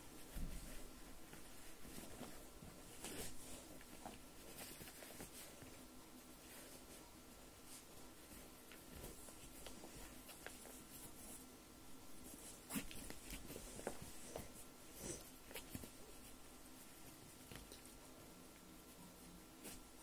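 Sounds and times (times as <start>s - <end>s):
faint rustling: 0.0s - 20.0s.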